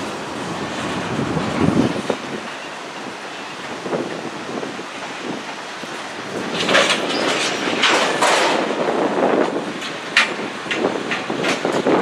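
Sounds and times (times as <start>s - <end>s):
train wheels clattering on track: 0.0s - 12.0s.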